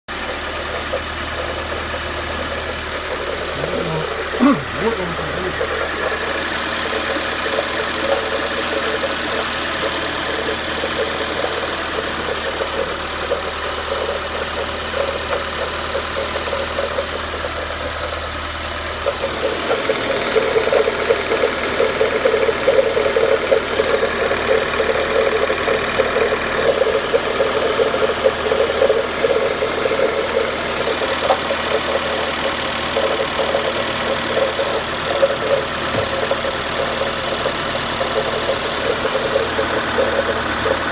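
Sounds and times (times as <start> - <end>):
car engine idling: 0.1 - 40.9
engine knocking clatter: 0.1 - 40.9.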